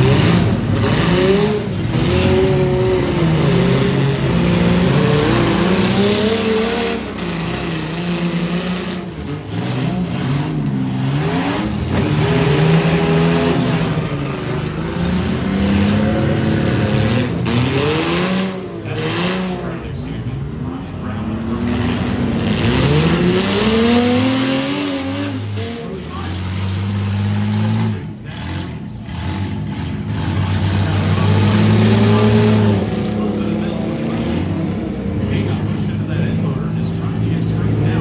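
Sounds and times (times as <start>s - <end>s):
engines revving: 0.0s - 38.0s
vehicles ramming: 0.0s - 38.0s.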